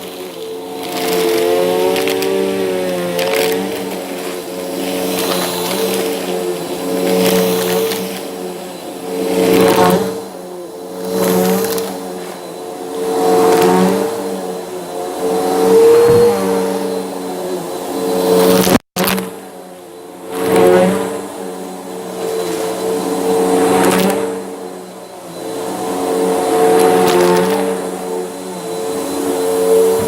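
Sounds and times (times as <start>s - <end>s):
brushroll crunching on floor: 0.0s - 10.3s, 11.0s - 19.4s, 20.2s - 30.0s
vacuum cleaner motor whine: 0.0s - 30.0s.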